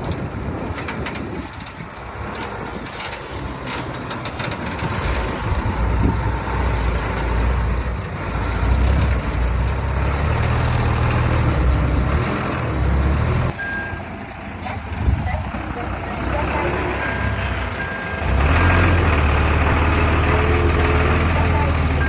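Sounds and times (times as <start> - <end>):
heavy diesel engine rumbling: 0.0 - 22.0.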